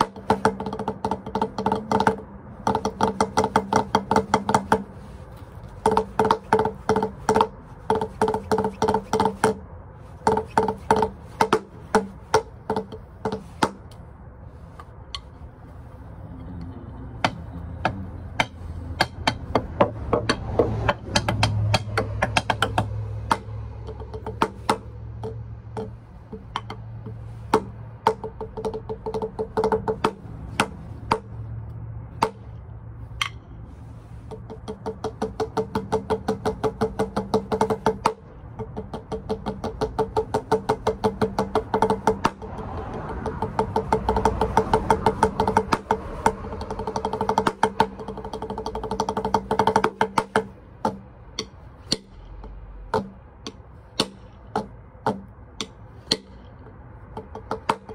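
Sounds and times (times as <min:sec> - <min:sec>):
drumsticks on practice pad: 0:00.0 - 0:57.9.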